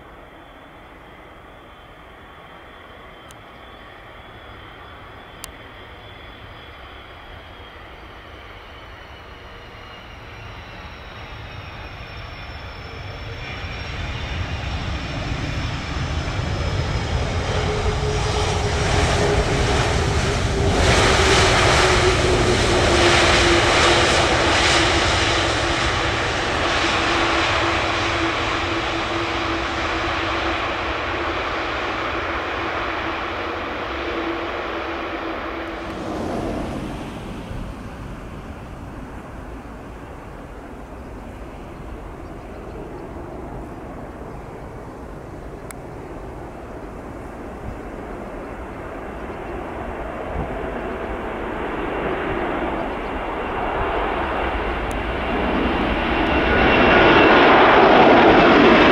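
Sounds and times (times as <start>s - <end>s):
jet airliner landing: 0.0s - 58.9s.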